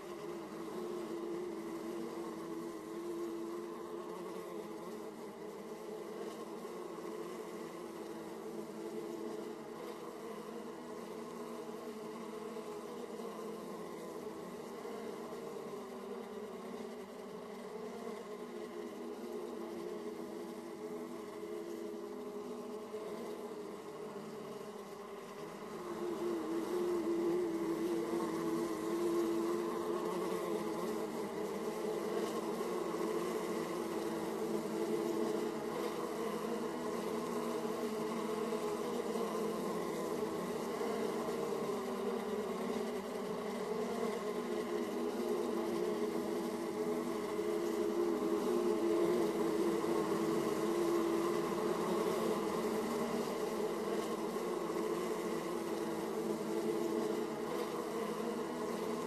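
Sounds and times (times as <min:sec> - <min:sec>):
honeybees buzzing: 0:00.0 - 0:59.0.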